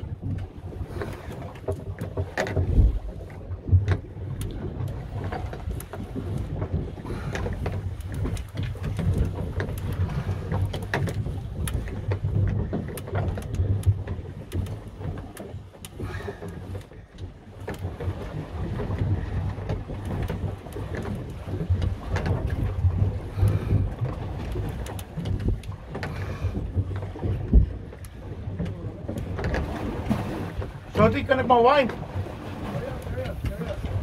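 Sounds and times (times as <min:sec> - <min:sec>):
boat engine humming: 0:00.0 - 0:34.0
wind noise on microphone: 0:00.0 - 0:34.0.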